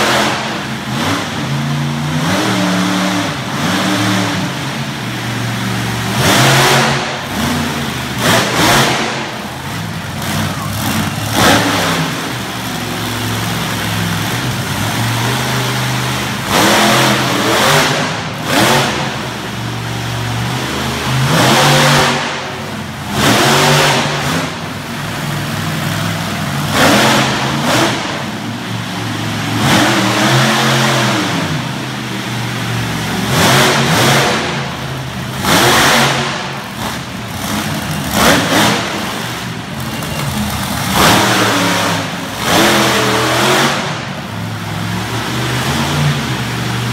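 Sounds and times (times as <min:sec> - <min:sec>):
monster truck engine revving: 0:00.0 - 0:46.9.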